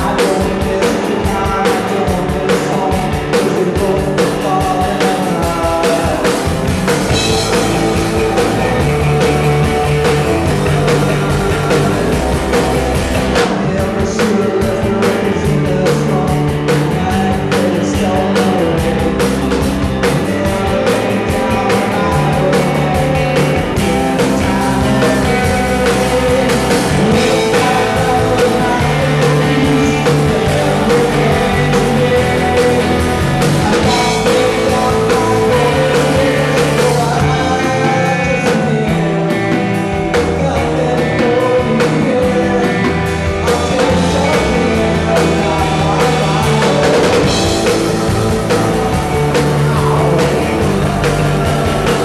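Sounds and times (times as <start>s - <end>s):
bass guitar: 0.0s - 52.0s
drum kit: 0.0s - 52.0s
electric guitars: 0.0s - 52.0s
man singing lead vocal: 0.0s - 52.0s.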